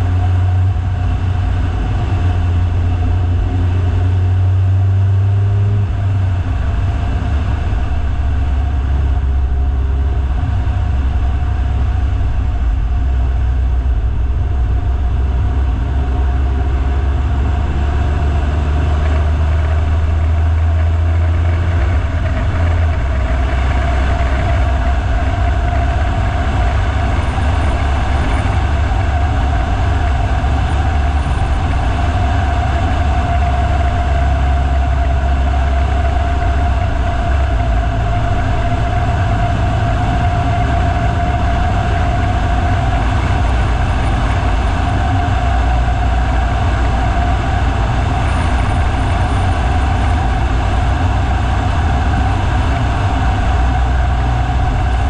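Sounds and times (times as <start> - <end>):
steady hum: 0.0 - 55.0
vehicle engine and road rumble: 0.0 - 55.0.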